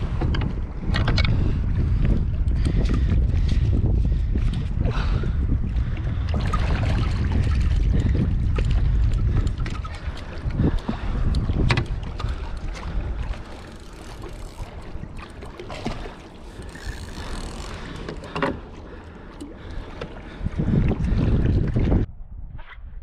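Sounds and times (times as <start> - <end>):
water sounds: 0.0 - 22.1
wind buffeting microphone: 0.0 - 23.0.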